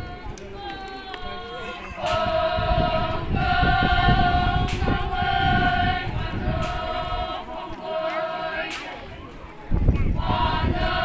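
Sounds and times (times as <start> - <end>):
women singing in unison: 0.0 - 9.2, 10.1 - 11.0.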